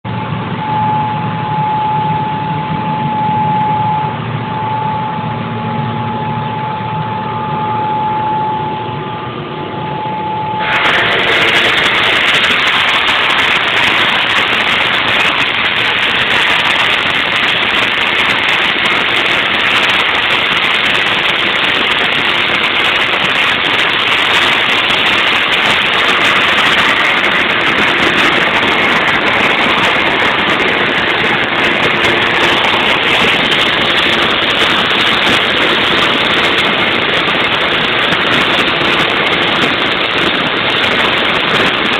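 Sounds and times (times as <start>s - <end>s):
diesel engines running: 0.0s - 41.9s
steady high tone: 0.1s - 41.9s.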